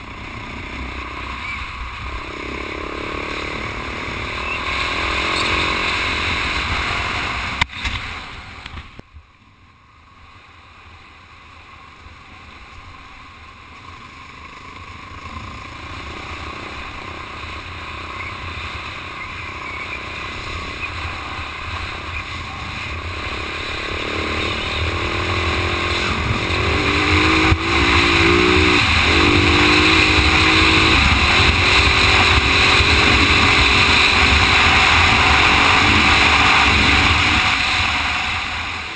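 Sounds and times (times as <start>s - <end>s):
dirt bike engine: 0.0s - 38.9s.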